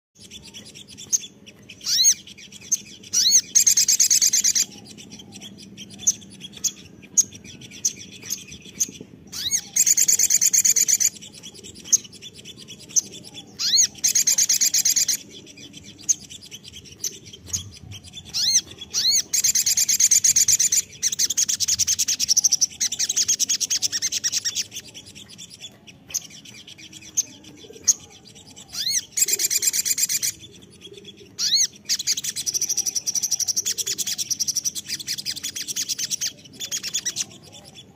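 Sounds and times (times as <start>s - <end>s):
sharp bird chirps: 0.2s - 37.5s
bird trilling song: 0.2s - 37.9s.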